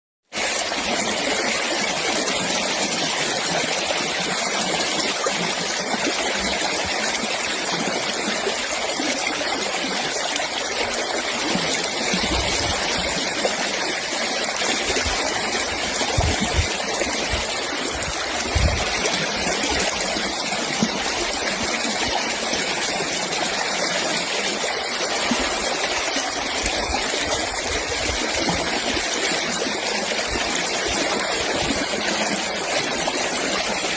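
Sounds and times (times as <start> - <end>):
stream water rushing: 0.4 - 33.9.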